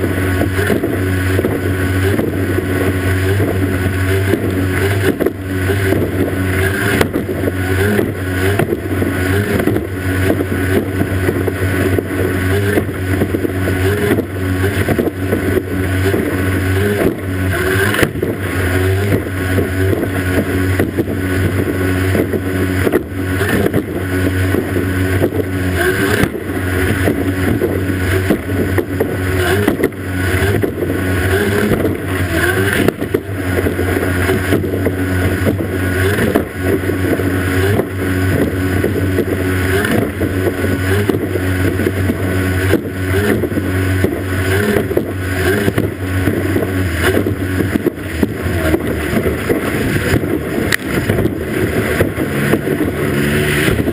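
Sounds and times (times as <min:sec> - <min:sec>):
hull thumping on waves: 0:00.0 - 0:53.9
outboard motor running hard: 0:00.0 - 0:53.9
rushing water and spray: 0:00.0 - 0:53.9.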